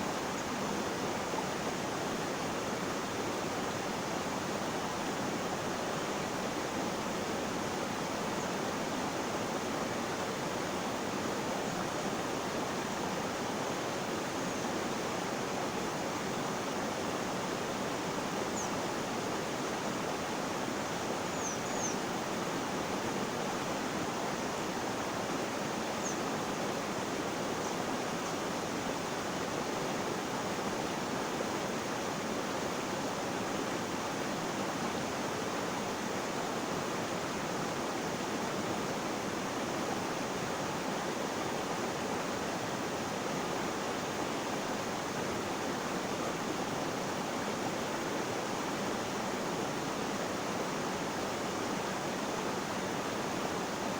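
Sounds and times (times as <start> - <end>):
flowing water rushing: 0.0 - 53.9.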